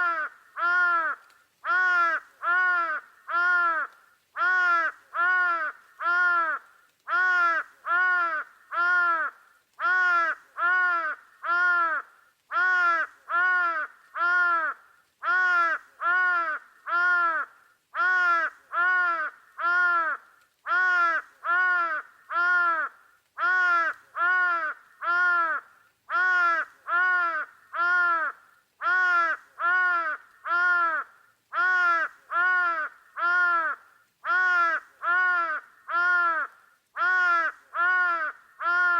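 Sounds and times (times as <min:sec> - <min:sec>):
bird cawing harshly: 0:00.0 - 0:38.9.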